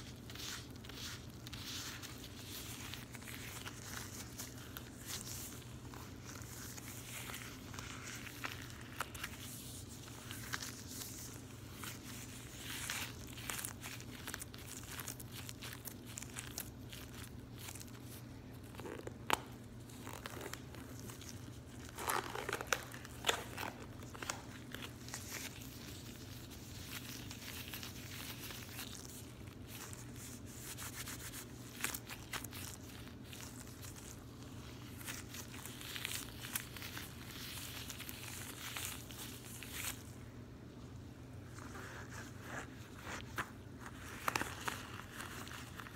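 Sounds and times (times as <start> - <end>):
latex gloves rustling and clicking: 0.0 - 45.9.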